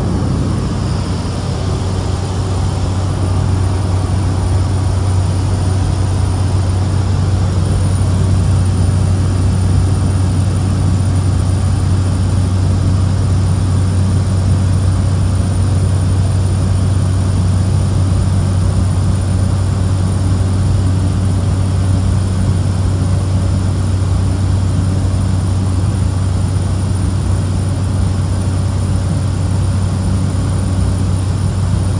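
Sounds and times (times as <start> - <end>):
propeller plane cabin drone: 0.0 - 31.9.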